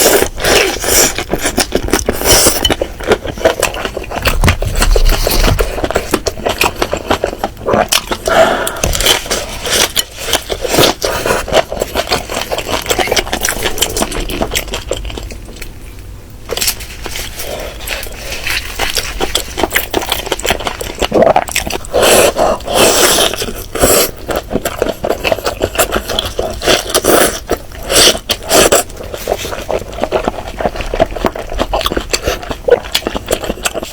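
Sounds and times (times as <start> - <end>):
chewing and biting chicken: 0.0 - 15.8, 16.5 - 33.9
crackles and clicks: 0.2 - 33.9.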